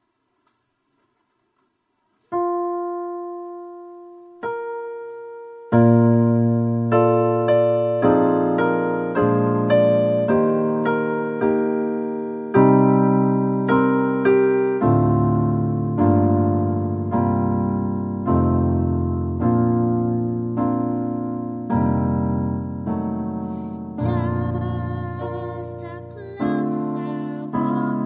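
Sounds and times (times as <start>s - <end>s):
piano chords on keyboard: 2.3s - 28.0s.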